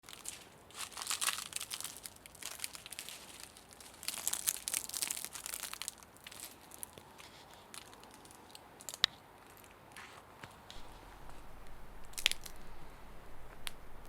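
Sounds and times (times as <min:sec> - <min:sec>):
crisp crinkling and crackling: 0:00.0 - 0:14.0.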